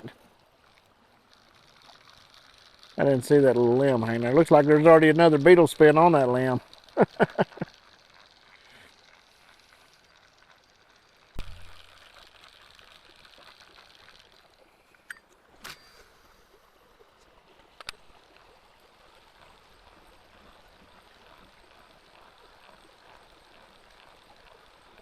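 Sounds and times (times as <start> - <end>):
creek water trickling: 0.0 - 25.0.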